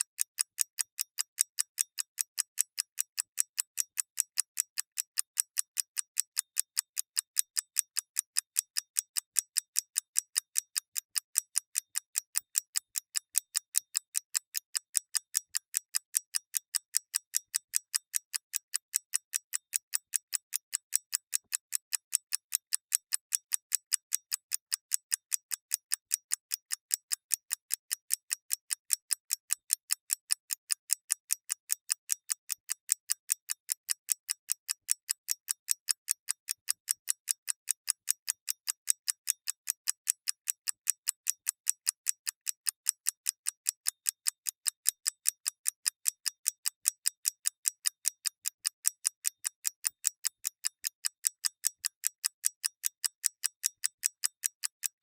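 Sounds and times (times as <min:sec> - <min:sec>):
clock ticking rapidly: 0:00.0 - 0:55.0.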